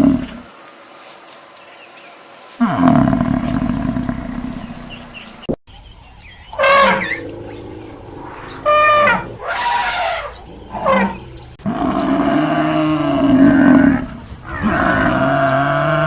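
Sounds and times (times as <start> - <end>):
long low animal calls: 0.0 - 0.5, 2.6 - 5.5, 6.1 - 16.0.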